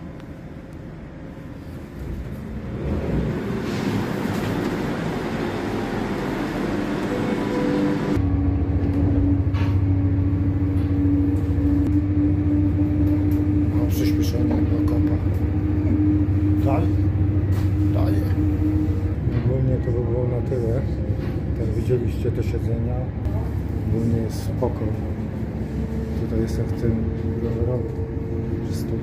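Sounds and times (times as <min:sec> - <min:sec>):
diesel railcar engine rumbling: 0:00.0 - 0:29.0.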